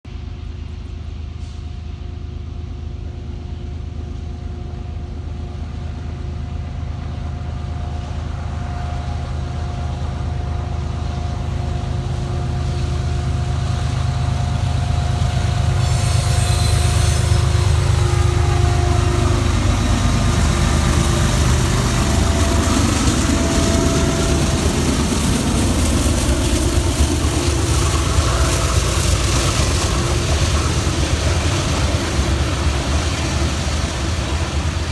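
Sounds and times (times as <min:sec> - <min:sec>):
diesel locomotive engines rumbling: 0:00.0 - 0:34.9
train wheels on rails: 0:00.1 - 0:34.9.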